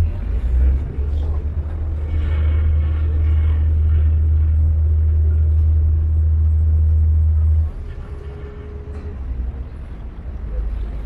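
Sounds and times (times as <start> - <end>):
boat low rumble: 0.0 - 11.0.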